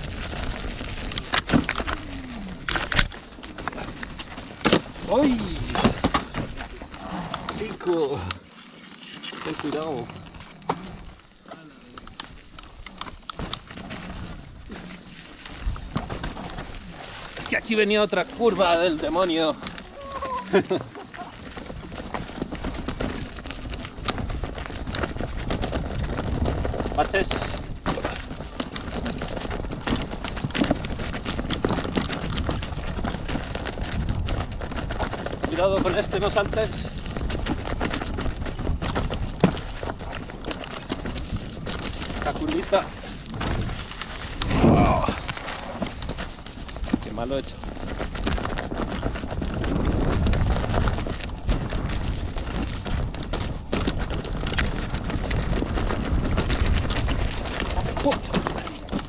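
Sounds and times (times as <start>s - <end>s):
low rumble of wind on microphone: 0.0s - 7.7s, 12.0s - 59.0s
clattering and knocking over rocky track: 0.0s - 59.0s
tyres crunching over stones: 0.0s - 59.0s.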